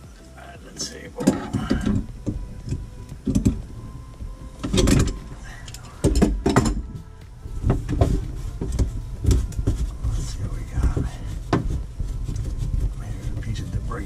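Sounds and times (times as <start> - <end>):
handling rumble: 0.0 - 14.0.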